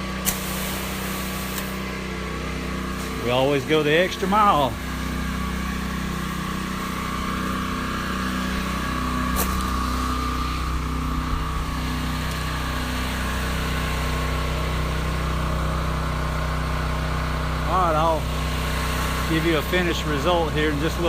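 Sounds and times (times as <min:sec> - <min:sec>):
small gas engine running: 0:00.0 - 0:21.0.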